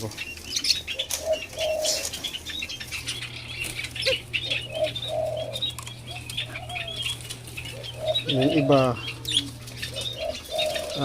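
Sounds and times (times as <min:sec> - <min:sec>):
doves pecking with clicks: 0:00.0 - 0:11.0
low bird call notes: 0:00.0 - 0:11.0.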